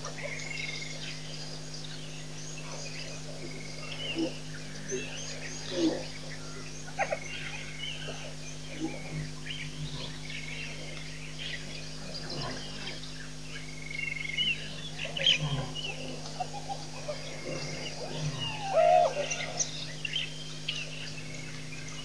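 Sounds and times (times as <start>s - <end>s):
birds chirping and trilling: 0.0s - 22.0s
steady low hum: 0.0s - 22.0s.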